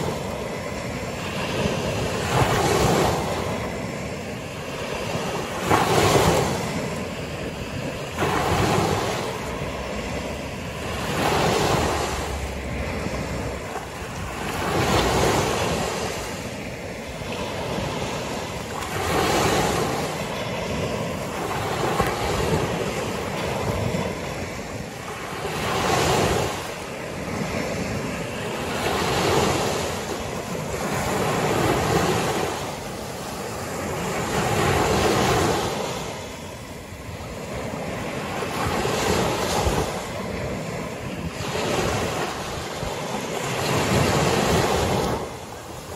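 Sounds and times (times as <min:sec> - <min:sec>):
waves breaking on sandy beach: 0:00.0 - 0:45.9.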